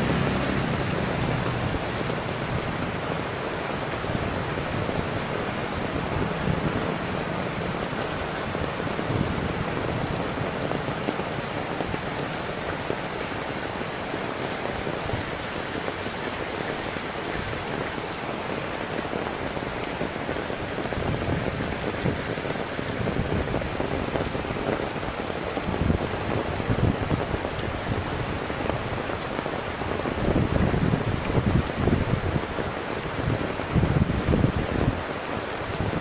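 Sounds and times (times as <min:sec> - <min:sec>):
heavy rain downpour: 0:00.0 - 0:36.0.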